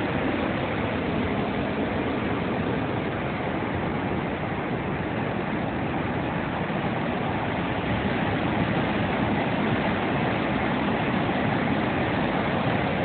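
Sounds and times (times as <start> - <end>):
water gushing from sluice gate: 0.0 - 13.0.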